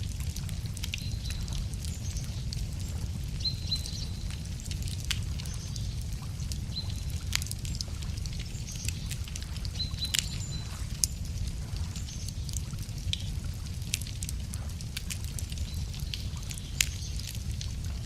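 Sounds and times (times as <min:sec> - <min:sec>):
bonfire crackling and popping: 0:00.0 - 0:18.0.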